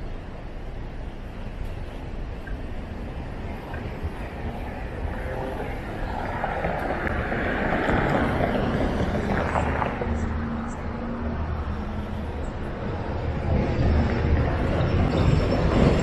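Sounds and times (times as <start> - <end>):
engine hum: 0.0 - 16.0
road noise rumble: 0.0 - 16.0.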